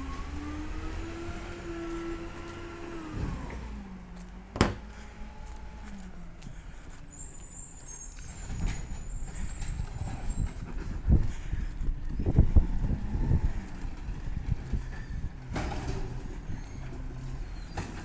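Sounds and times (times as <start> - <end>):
garbage truck diesel engine: 0.0 - 18.0.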